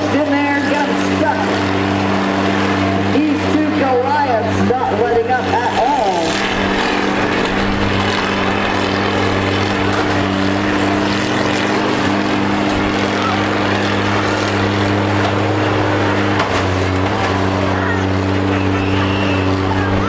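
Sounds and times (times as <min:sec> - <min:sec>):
combine harvester engines running: 0:00.0 - 0:20.0.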